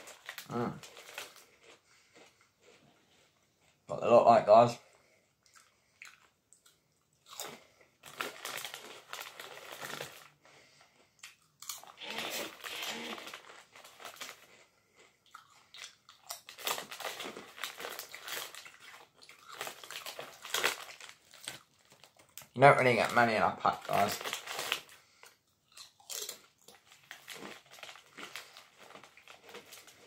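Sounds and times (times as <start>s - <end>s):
crunching and chewing crisps: 0.0s - 4.1s, 5.0s - 30.0s.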